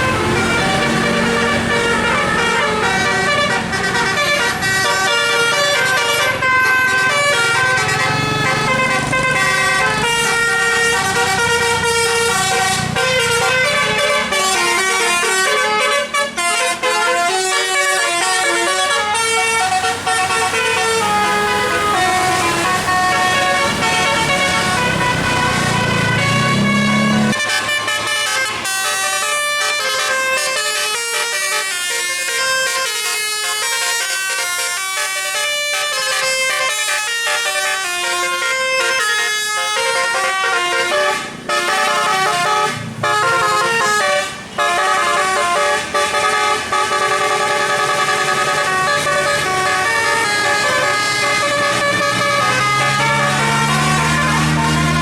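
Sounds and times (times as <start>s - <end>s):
air horns playing a tune: 0.0s - 55.0s
bus engine running: 0.0s - 55.0s.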